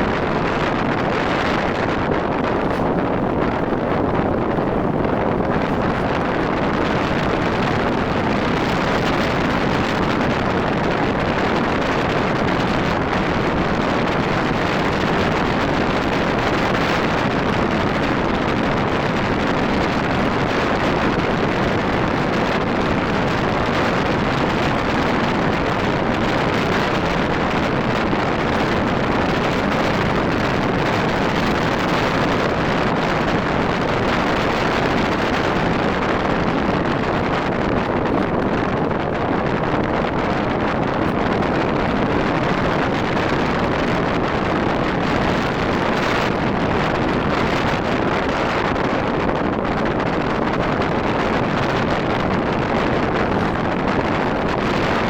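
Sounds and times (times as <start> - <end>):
motorcycle road and running noise: 0.0 - 55.0
wind rush on microphone: 0.0 - 55.0.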